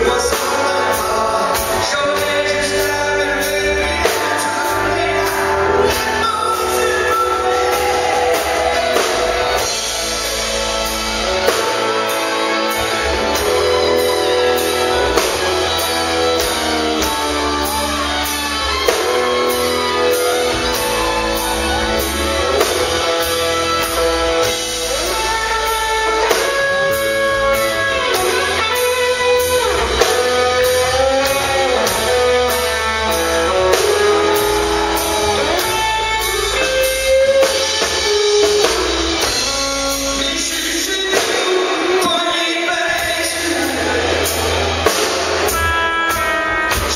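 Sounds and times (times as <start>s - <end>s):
country band playing: 0.0s - 46.9s
electric guitar: 0.0s - 46.9s.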